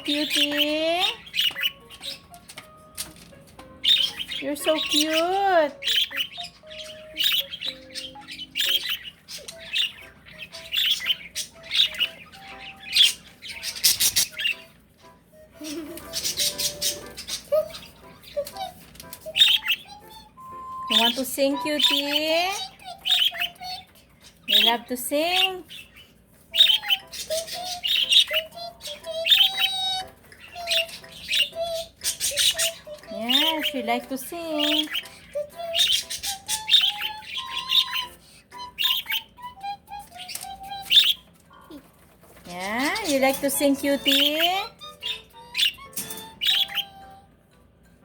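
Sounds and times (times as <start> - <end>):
bird squawking and chirping: 0.0 - 47.4.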